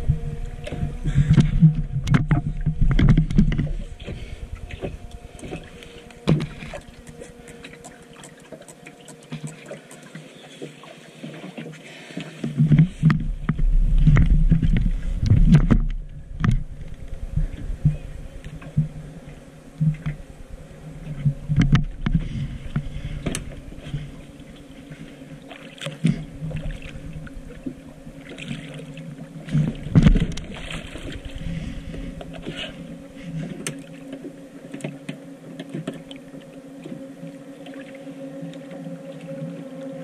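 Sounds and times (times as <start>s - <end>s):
boat motor running: 0.0s - 40.0s.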